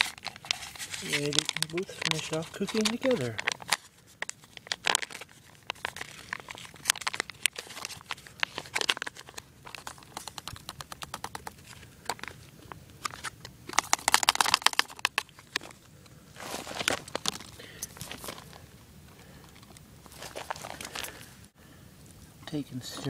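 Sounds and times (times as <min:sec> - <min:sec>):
foil pouch crinkling: 0:00.0 - 0:21.5.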